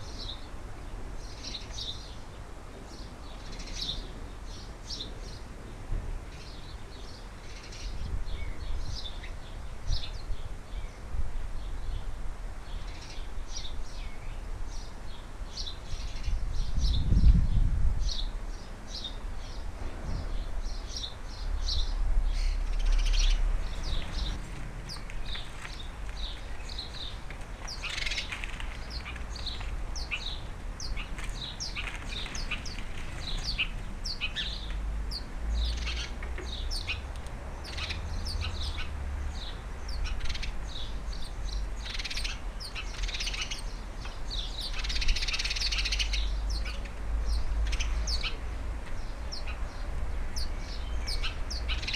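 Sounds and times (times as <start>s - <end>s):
birds chirping and tweeting: 0.0s - 51.9s.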